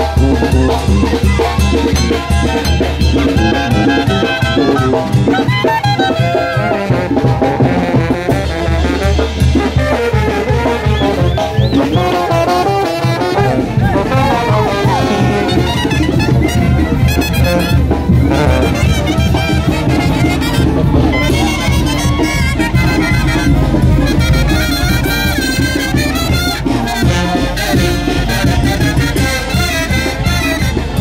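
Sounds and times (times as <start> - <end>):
brass band playing: 0.0 - 31.0.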